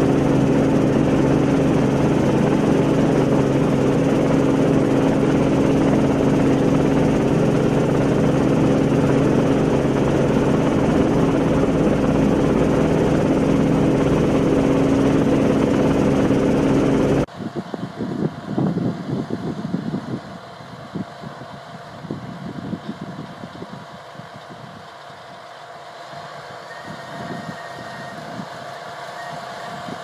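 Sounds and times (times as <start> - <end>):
diesel machinery engine drone: 0.0 - 30.0.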